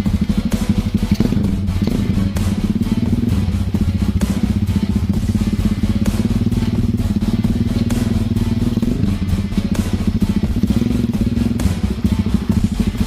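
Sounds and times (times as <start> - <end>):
background music: 0.0 - 13.0
motorcycle engine running: 0.0 - 13.0.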